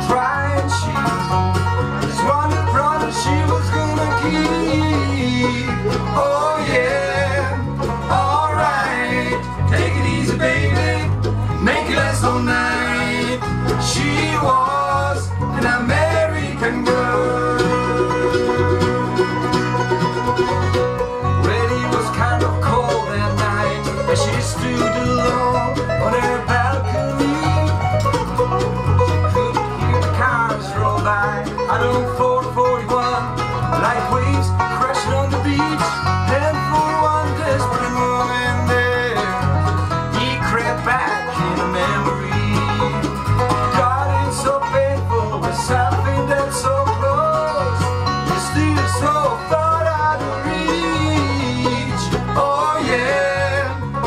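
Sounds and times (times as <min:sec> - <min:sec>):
bass guitar low notes: 0:00.0 - 0:54.0
bluegrass band playing: 0:00.0 - 0:54.0.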